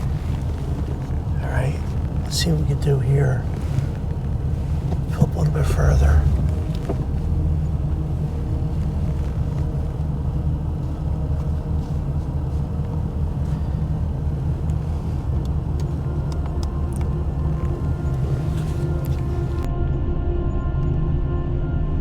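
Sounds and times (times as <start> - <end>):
truck engine rumbling: 0.0 - 19.7.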